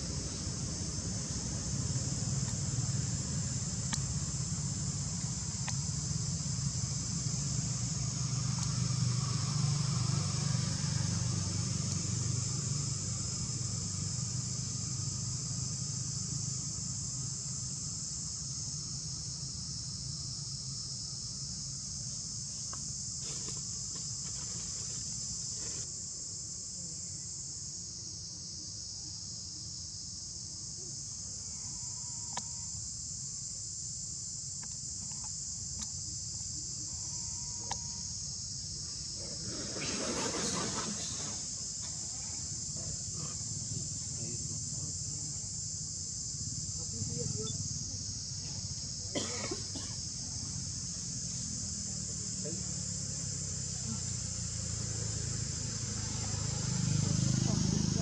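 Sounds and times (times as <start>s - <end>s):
insects chirping chorus: 0.0s - 58.0s.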